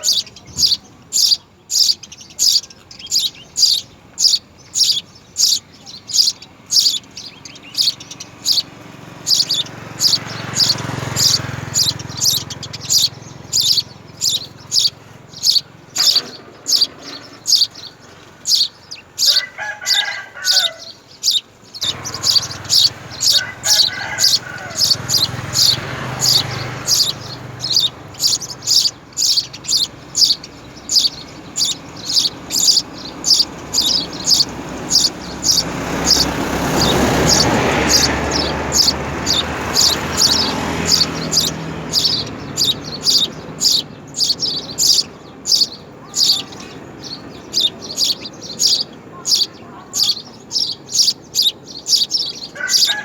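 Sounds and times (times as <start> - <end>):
broad rushing noise: 0.0 - 52.9
sparrow chirping: 0.0 - 53.0.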